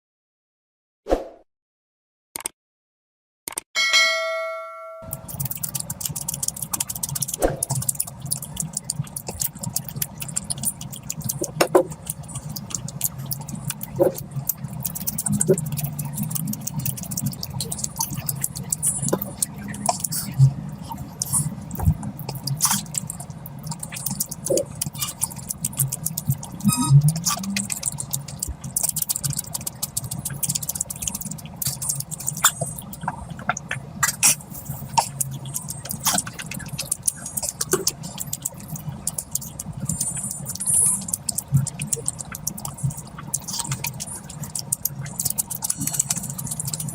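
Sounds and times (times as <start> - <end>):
wet chewing and lip-smacking: 5.1 - 46.9.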